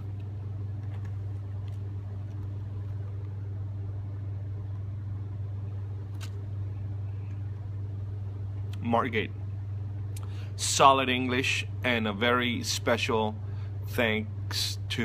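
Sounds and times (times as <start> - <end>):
hvac equipment humming: 0.0 - 15.0.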